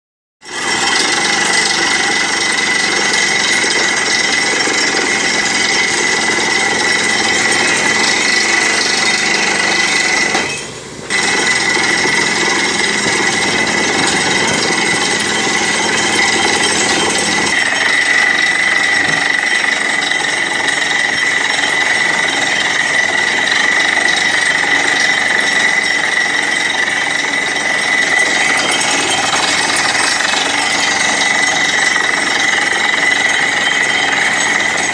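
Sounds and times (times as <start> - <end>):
drilling rig air hammer din: 0.4 - 34.9.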